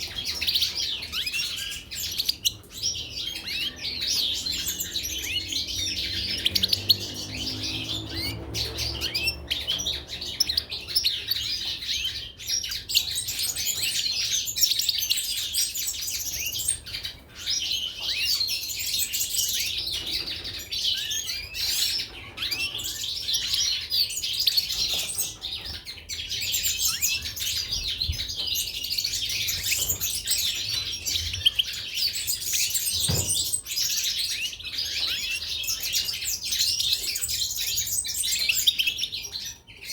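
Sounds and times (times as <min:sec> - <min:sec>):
finches chirping and twittering: 0:00.0 - 0:39.9.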